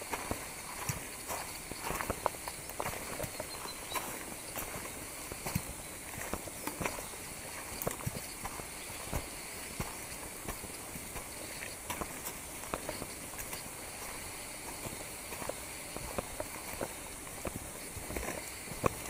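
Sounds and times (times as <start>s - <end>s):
footsteps on leaves: 0.0s - 19.0s
steady high hiss: 0.0s - 19.0s.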